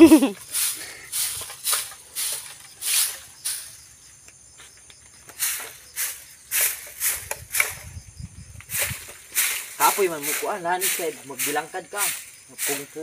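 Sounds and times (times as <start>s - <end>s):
broom sweeping leaves and grit: 0.0s - 8.0s, 8.6s - 13.0s.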